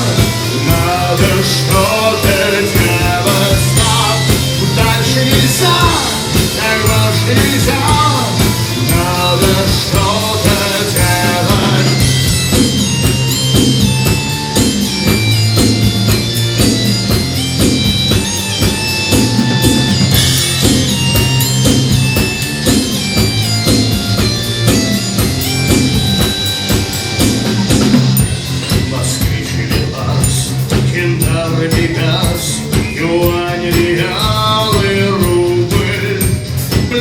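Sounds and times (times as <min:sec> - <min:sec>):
bass guitar line: 0:00.0 - 0:37.0
drum kit beat: 0:00.0 - 0:37.0
electric guitar: 0:00.0 - 0:37.0
high melodic notes: 0:00.0 - 0:37.0.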